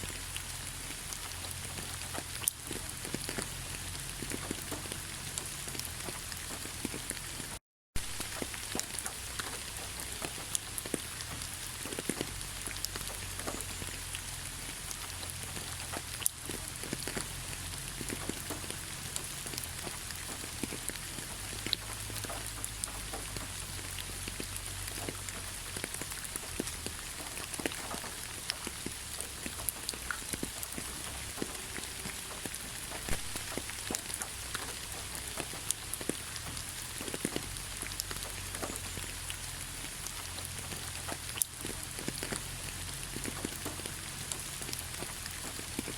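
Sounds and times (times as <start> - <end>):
heavy rain falling: 0.0 - 45.9
raindrops ticking and splashing: 0.0 - 45.9.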